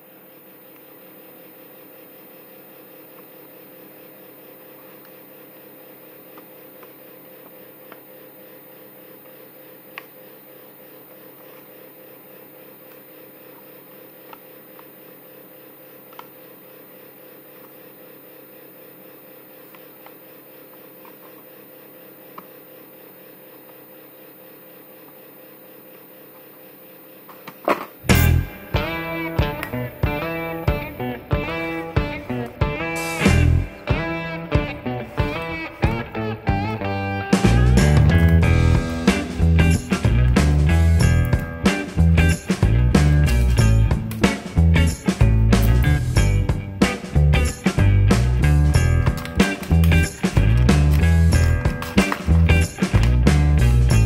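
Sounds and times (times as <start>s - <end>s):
fan machine humming: 0.0s - 54.0s.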